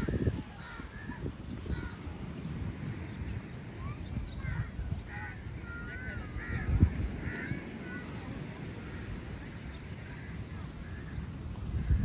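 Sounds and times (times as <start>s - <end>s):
birds warbling and whistling: 0.0s - 12.0s.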